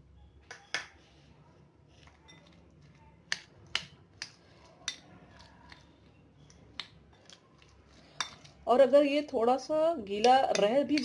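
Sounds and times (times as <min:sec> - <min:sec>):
hand mixing food in a bowl: 0:01.0 - 0:11.0.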